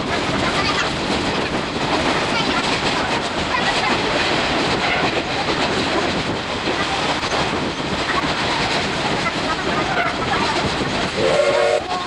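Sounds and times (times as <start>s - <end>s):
wheels clattering over rails: 0.0s - 11.3s
train rumble: 0.0s - 12.0s.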